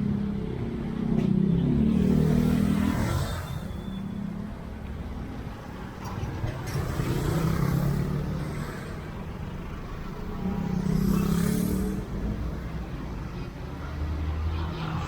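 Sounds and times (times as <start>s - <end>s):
vehicles passing by: 0.0s - 15.0s.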